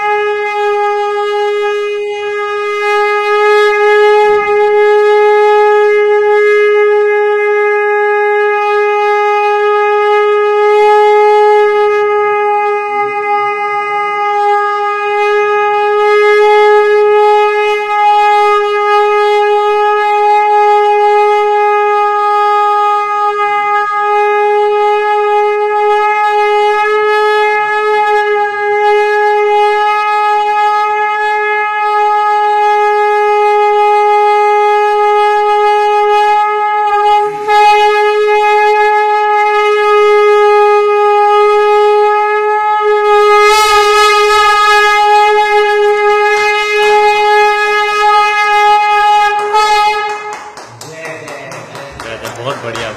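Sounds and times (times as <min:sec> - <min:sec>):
conch shell blown: 0:00.0 - 0:52.9.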